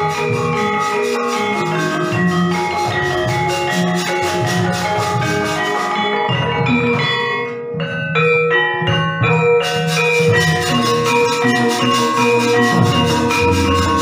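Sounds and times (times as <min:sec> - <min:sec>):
gamelan ensemble playing: 0:00.0 - 0:14.0.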